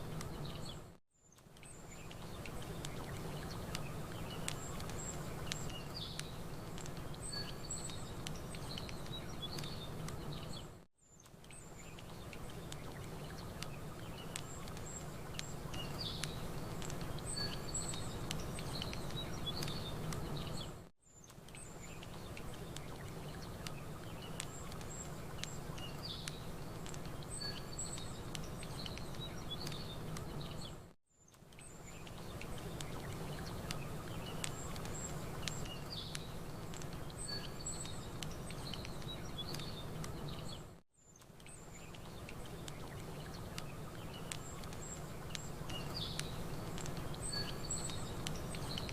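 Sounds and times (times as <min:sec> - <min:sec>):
campfire crackling: 0:00.0 - 0:48.9
outdoor noise: 0:00.0 - 0:48.9
small birds chirping: 0:00.0 - 0:48.9.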